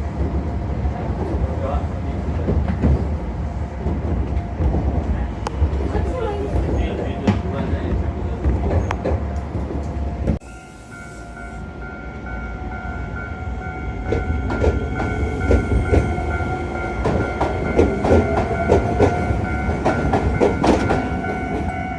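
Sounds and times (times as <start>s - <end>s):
steady train whine: 0.0s - 21.9s
train rumble: 0.0s - 21.9s.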